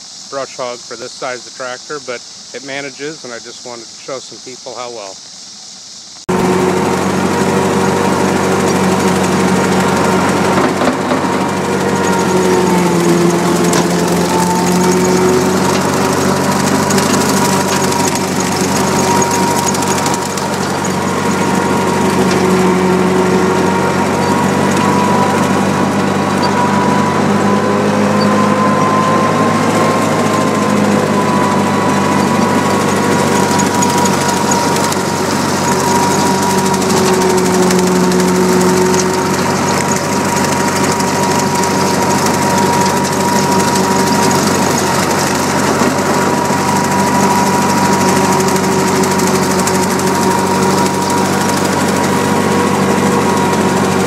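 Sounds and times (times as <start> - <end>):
mower cutting tall grass: 0.0 - 54.0
steady high whine: 0.0 - 54.0
tractor engine running under load: 0.0 - 54.0.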